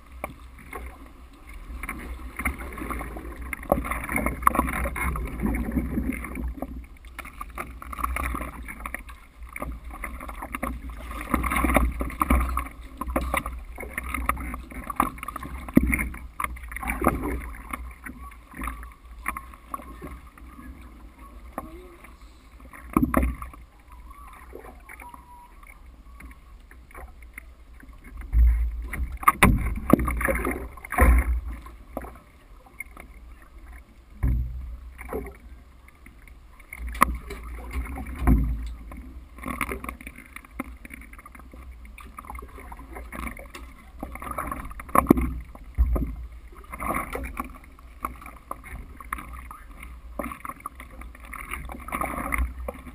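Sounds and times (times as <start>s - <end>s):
paddle strokes in water: 0.0s - 52.9s
water sloshing against board: 0.0s - 52.9s.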